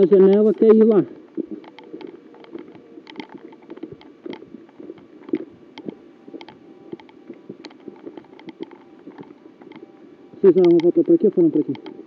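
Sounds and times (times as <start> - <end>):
footsteps crunching on dirt path: 0.0 - 12.0.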